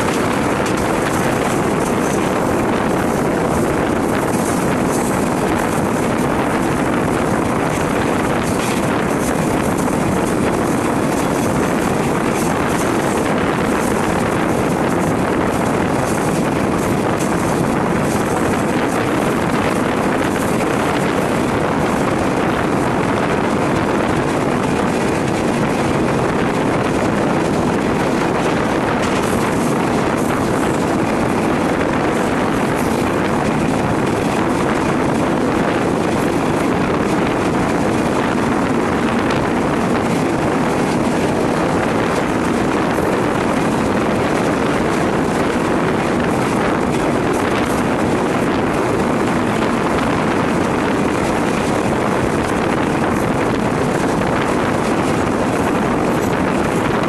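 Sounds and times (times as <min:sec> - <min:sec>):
moving train running noise: 0:00.0 - 0:57.0
wind on microphone: 0:00.0 - 0:57.0.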